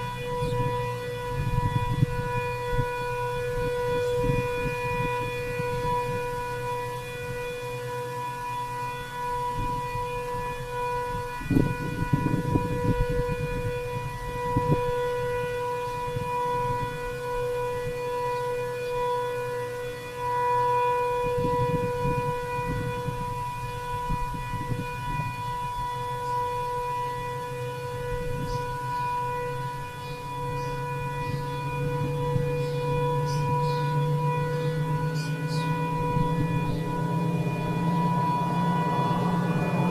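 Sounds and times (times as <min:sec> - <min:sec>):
distant warning siren: 0:00.0 - 0:39.9.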